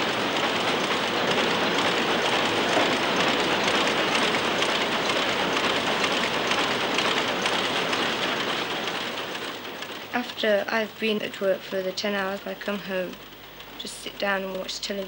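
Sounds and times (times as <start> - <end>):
machinery clattering: 0.0 - 15.0.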